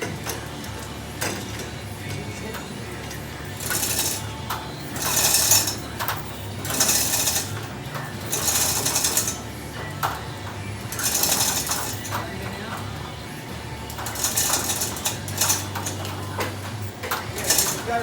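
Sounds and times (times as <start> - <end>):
chain hoist rattling: 0.0 - 13.2, 13.8 - 18.0.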